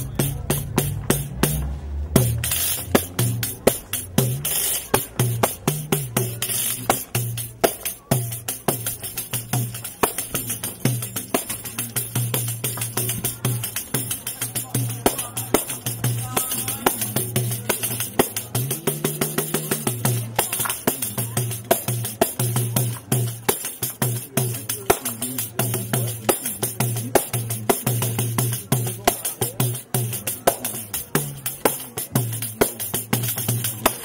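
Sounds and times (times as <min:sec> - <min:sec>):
frame drum with jingles: 0:00.0 - 0:34.0.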